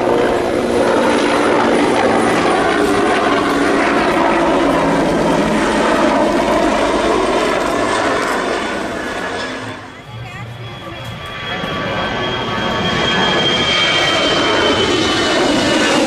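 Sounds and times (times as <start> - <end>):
aircraft engine rushing: 0.0 - 16.0.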